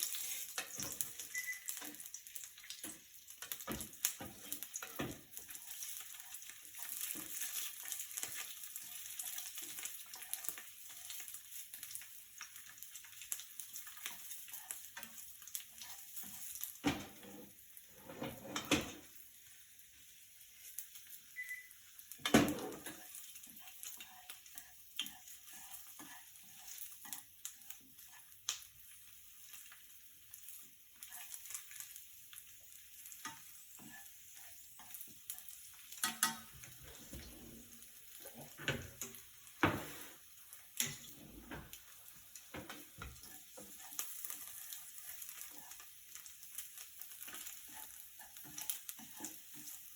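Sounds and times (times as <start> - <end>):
food sizzling in frying pan: 0.0 - 49.9.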